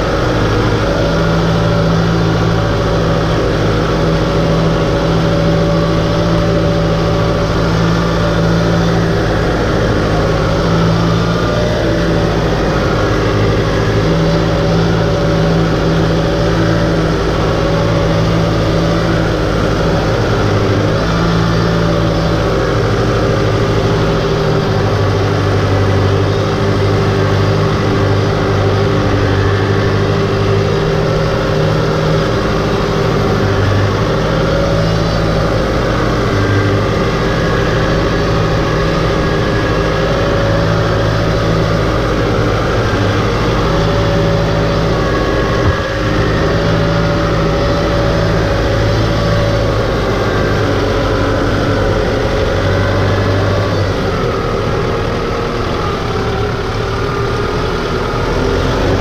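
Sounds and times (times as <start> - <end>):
tractor engine running under load: 0.0 - 59.0.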